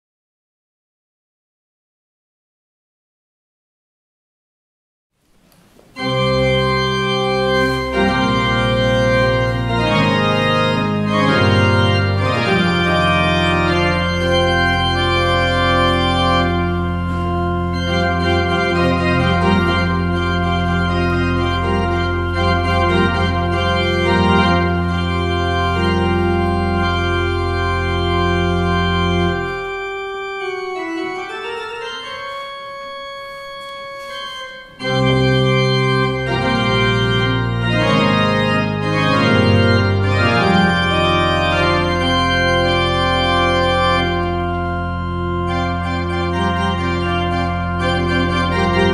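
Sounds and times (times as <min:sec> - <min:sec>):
pipe organ chords: 0:05.7 - 0:48.9
deep organ pedal notes: 0:05.9 - 0:48.9.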